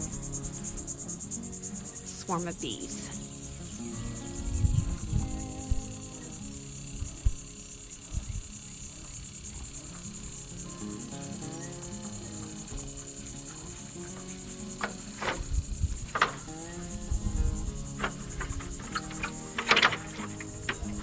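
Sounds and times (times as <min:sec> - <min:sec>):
bees buzzing: 0:00.0 - 0:21.0
crickets chirring: 0:00.0 - 0:21.0.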